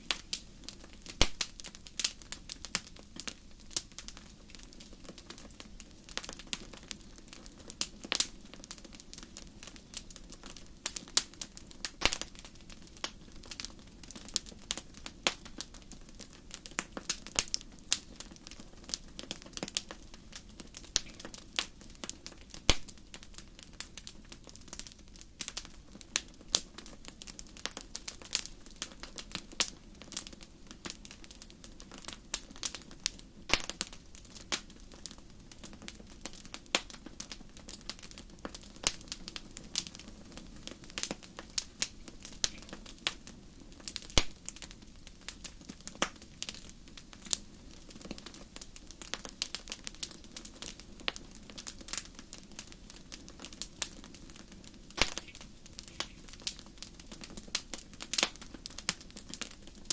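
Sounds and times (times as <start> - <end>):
fire crackling and popping: 0.0 - 59.9
soft steady hiss: 0.0 - 59.9.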